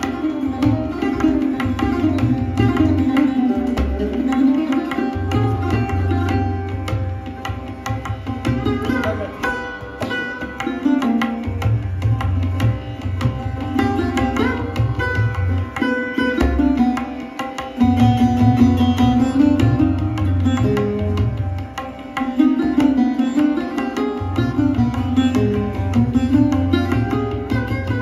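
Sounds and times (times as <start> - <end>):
plucked sliding sarod notes: 0.0 - 28.0.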